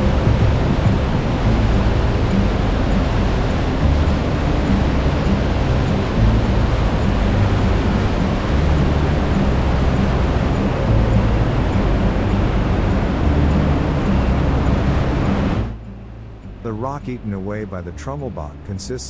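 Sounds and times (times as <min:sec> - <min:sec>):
waterfall rushing through gorge: 0:00.0 - 0:15.7
deep rumble: 0:00.0 - 0:18.8.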